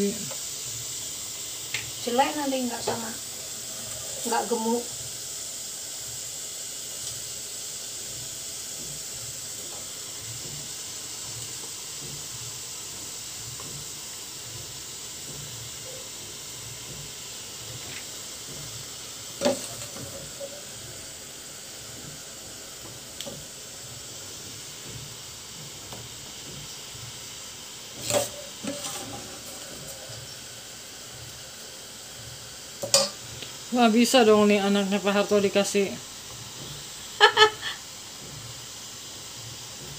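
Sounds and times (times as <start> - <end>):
steamer pot hissing: 0.0 - 39.9.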